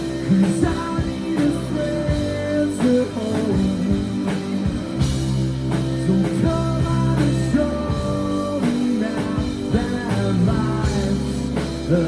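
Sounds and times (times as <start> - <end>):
person singing: 0.0 - 12.0
rock band playing live: 0.0 - 12.0.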